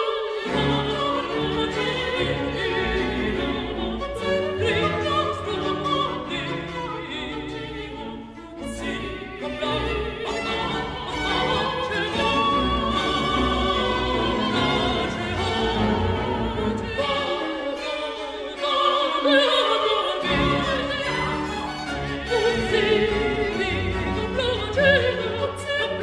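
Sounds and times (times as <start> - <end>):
operatic voice singing with vibrato: 0.0 - 26.0
orchestra playing: 0.0 - 26.0.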